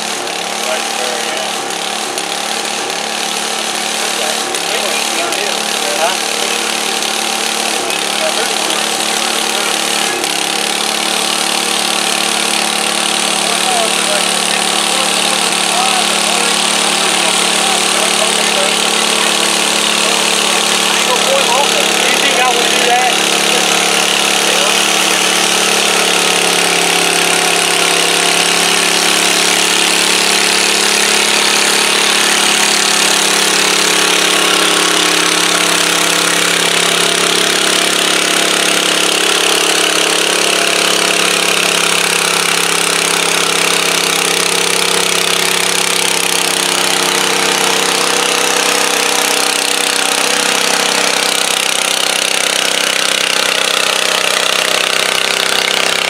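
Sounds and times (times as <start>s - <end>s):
garden tractor engine under load: 0.0s - 56.0s.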